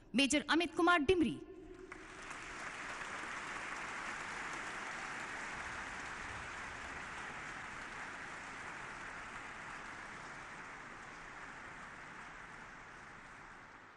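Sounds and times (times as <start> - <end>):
audience applauding: 1.8 - 13.9.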